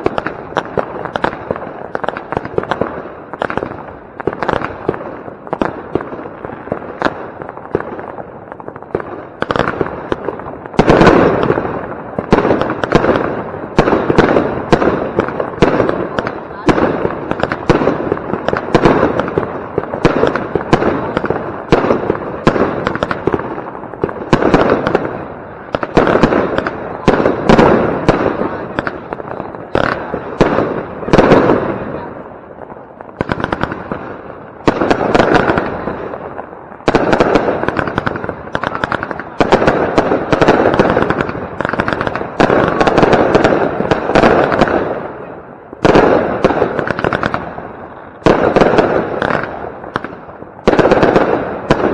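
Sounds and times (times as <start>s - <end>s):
fireworks launching and banging: 0.0s - 51.9s.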